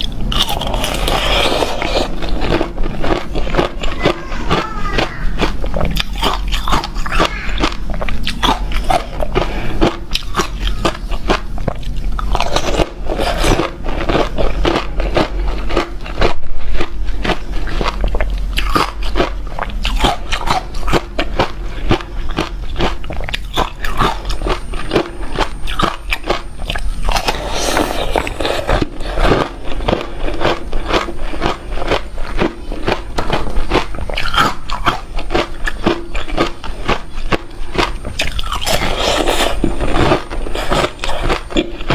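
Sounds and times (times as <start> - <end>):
person chewing crunchy ice: 0.0 - 41.9
steady low hum: 0.0 - 41.9.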